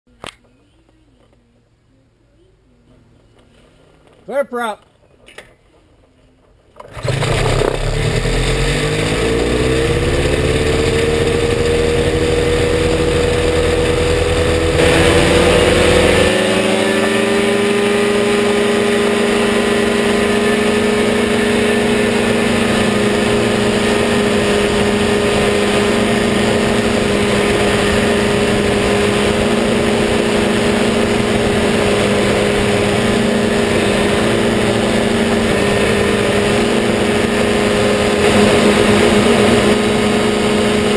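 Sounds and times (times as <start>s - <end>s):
ultralight engine and propeller drone: 6.8s - 40.9s.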